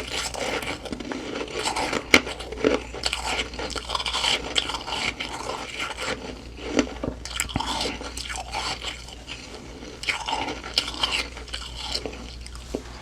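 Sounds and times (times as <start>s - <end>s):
ice crunching as chewed: 0.0s - 13.0s.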